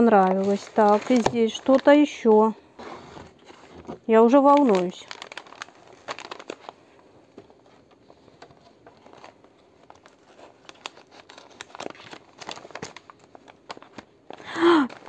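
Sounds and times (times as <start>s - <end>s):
gift wrapping crinkling: 0.0s - 2.5s, 3.3s - 15.0s.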